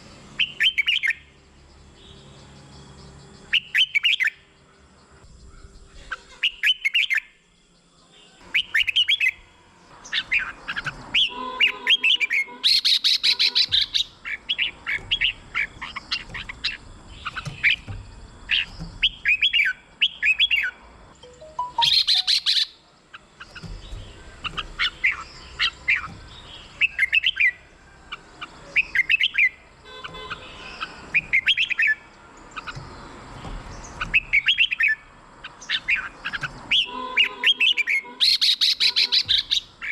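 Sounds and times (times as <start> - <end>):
birds singing whistled notes: 0.0 - 39.9
harsh bird calls: 0.0 - 39.9.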